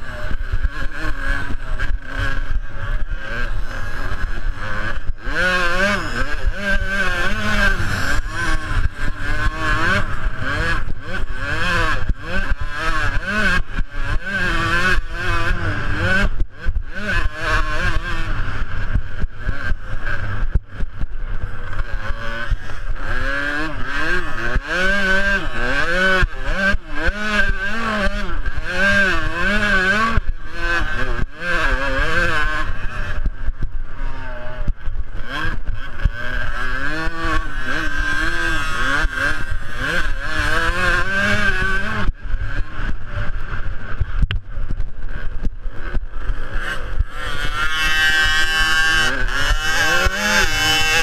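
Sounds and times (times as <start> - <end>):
motocross bike engines revving: 0.0 - 51.0.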